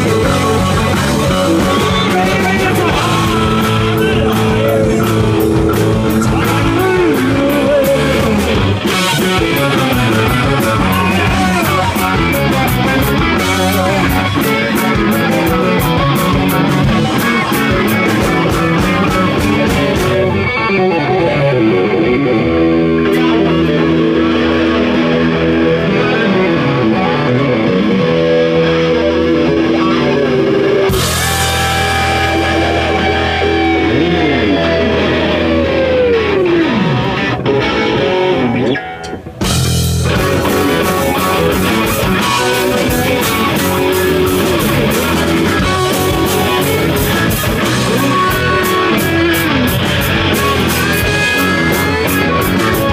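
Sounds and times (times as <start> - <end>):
guitar note sliding down: 0.0 - 52.9
live rock band playing: 0.0 - 52.9.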